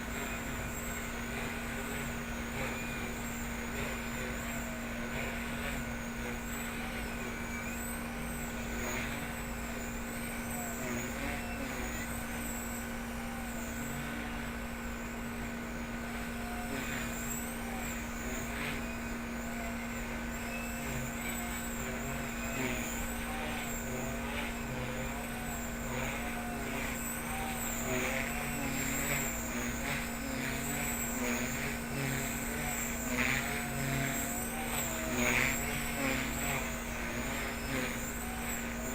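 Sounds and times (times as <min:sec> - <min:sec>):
rc helicopter motor whine: 0:00.0 - 0:38.9.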